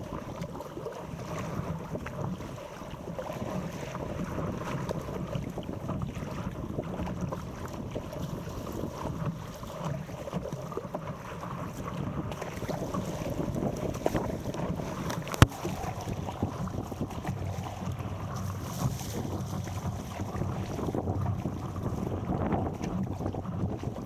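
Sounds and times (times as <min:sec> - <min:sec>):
water splashing against paddleboard: 0:00.0 - 0:24.0
wind buffeting microphone: 0:00.0 - 0:24.0.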